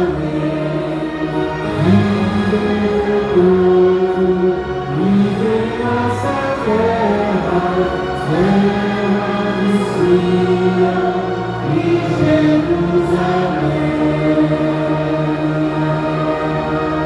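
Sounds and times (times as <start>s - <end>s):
group singing slow worship song: 0.0s - 17.0s.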